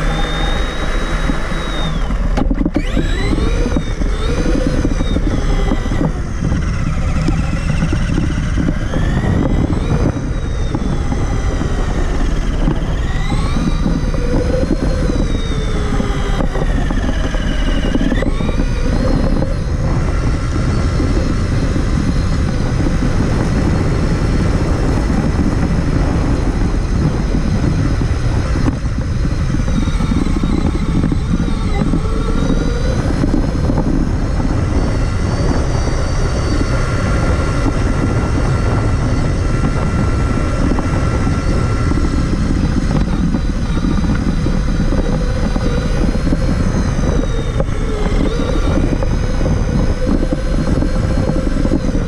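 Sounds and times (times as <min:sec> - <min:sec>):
electric motor and gears whining: 0:00.0 - 0:52.0
low rumble: 0:00.0 - 0:52.0.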